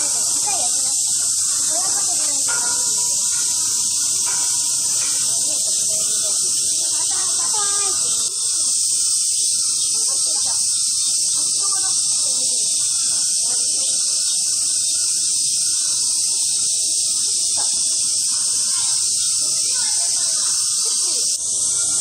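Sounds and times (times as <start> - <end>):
cicadas shrilling: 0.0 - 22.0
people talking faintly: 0.0 - 22.0.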